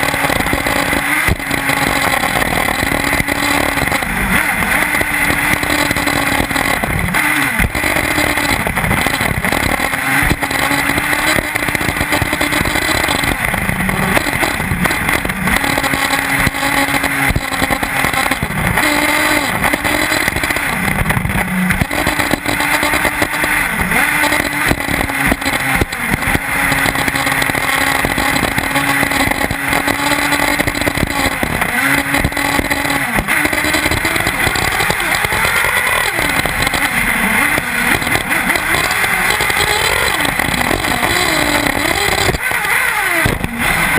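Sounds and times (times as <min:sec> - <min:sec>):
small engine revving high: 0:00.0 - 0:43.9
wheels rushing over dirt: 0:00.0 - 0:43.9.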